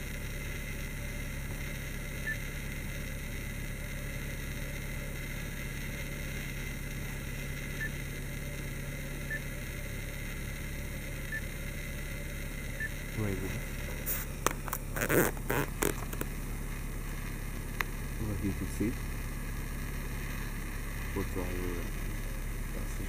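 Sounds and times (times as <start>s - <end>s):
low hum in car cabin: 0.0s - 23.0s.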